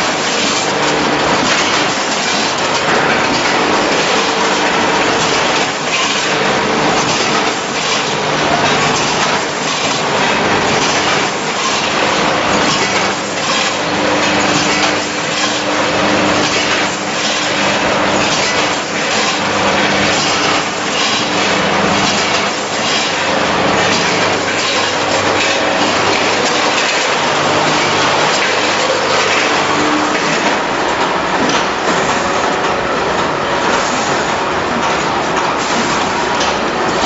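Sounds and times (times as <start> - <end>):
packing machine clatter: 0.0 - 37.0
steady machine hum: 0.0 - 37.0.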